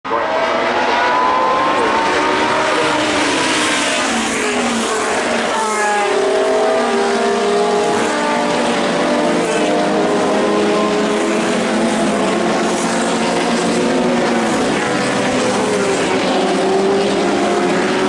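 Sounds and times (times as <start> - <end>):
racing car engines accelerating: 0.1 - 18.0.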